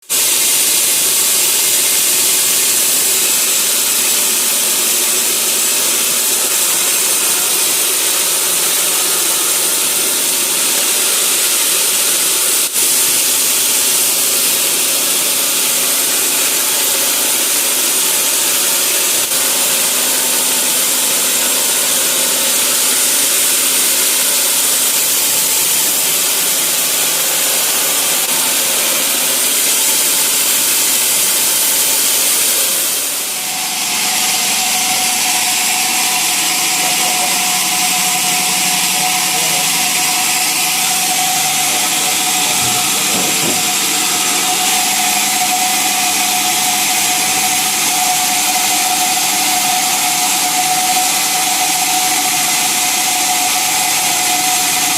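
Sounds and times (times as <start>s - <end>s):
sawmill saw cutting log: 0.0s - 54.9s.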